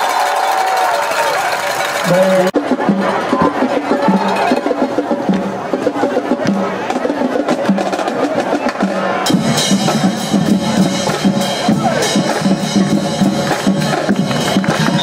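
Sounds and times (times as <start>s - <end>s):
drums and percussion beat: 0.0s - 15.0s.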